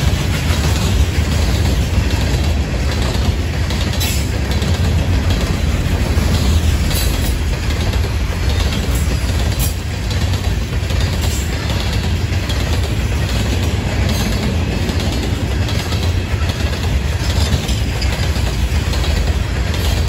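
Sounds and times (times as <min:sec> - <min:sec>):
freight train rumbling on rails: 0:00.0 - 0:20.0
wheels clacking over rail joints: 0:00.0 - 0:20.0.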